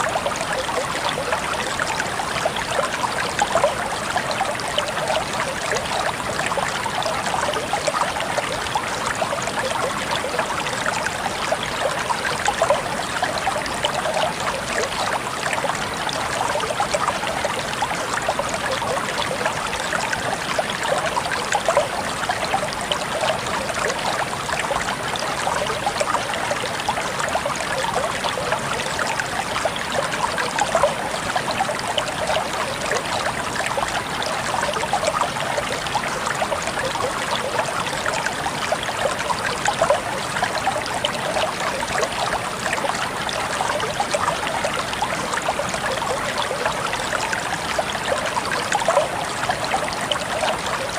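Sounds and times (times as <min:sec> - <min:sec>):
stream water flowing and trickling: 0:00.0 - 0:50.9.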